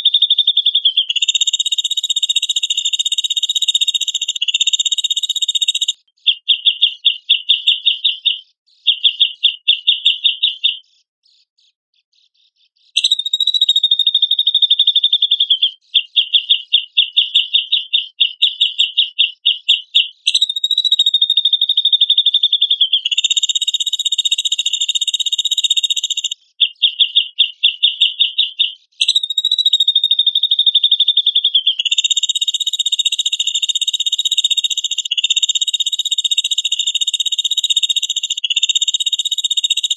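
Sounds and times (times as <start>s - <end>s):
bird chattering trills: 0.0s - 10.8s, 12.9s - 39.9s.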